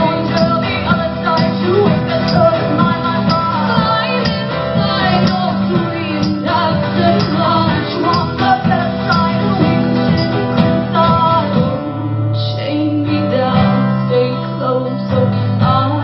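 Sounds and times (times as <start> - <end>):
strummed guitars: 0.0 - 16.0
woman singing: 0.0 - 16.0.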